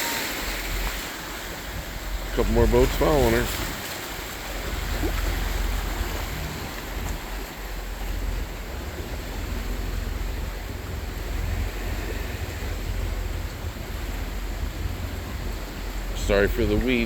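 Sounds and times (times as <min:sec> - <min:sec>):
choppy water washing: 0:00.0 - 0:17.0
motorboats passing: 0:00.0 - 0:17.0
wind buffeting microphone: 0:00.1 - 0:17.0.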